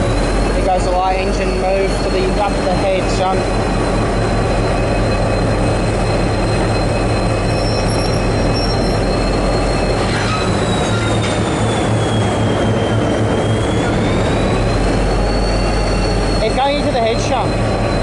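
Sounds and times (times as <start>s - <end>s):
dense mechanical noise: 0.0s - 18.0s
diesel locomotive engine drone: 0.0s - 18.0s
thin high whine: 0.0s - 18.0s.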